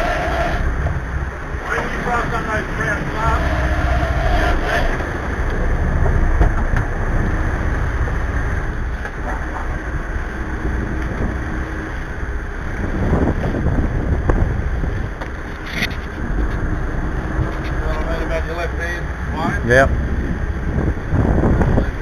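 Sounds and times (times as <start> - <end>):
boat engine rumbling: 0.0 - 22.0
water rushing along hull: 0.0 - 22.0
wind buffeting microphone: 0.0 - 22.0.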